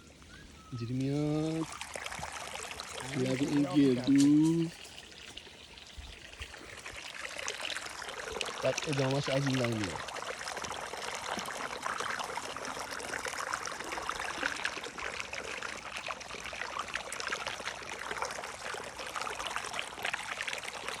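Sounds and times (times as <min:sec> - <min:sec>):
water trickling and gurgling: 0:00.0 - 0:21.0.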